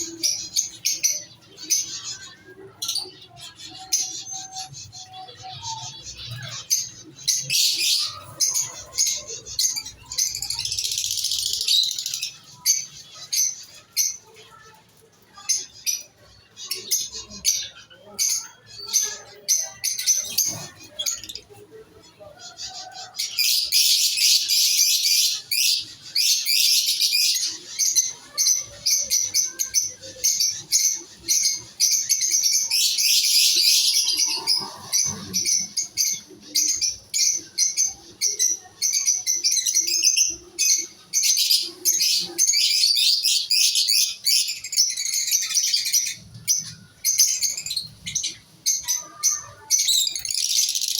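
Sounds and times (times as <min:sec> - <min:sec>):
cage birds chirping: 0:00.0 - 0:50.9.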